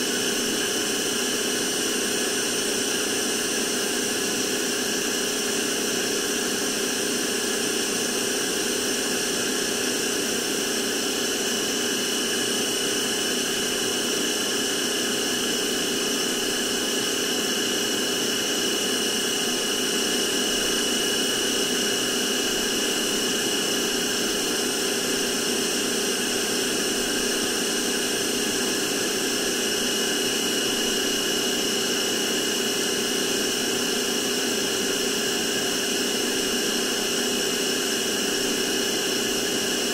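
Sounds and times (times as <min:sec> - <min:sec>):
handheld vacuum cleaner whine: 0:00.0 - 0:39.9.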